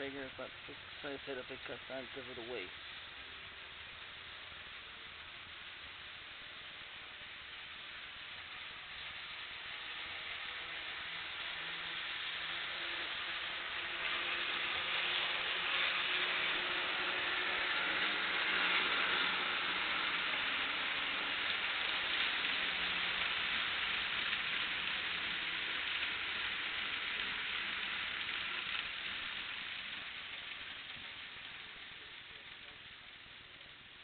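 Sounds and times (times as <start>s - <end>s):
faint hum: 0.0s - 34.0s
model train wheels on rails: 0.0s - 34.0s.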